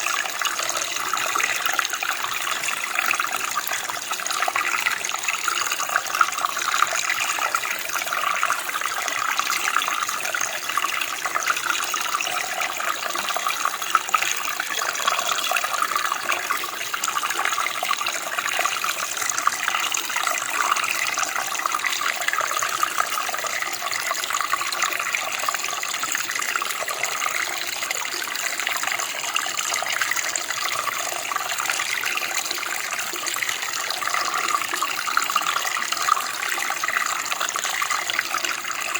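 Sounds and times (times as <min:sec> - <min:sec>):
stream water gurgling: 0:00.0 - 0:38.9.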